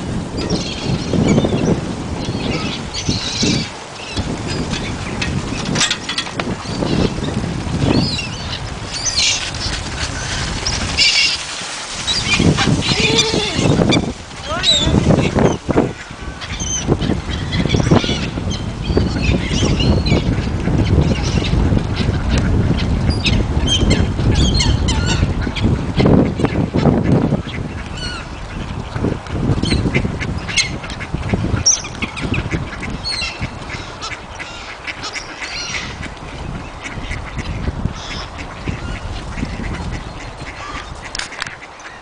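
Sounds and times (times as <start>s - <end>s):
flock of birds calling: 0.0s - 42.0s.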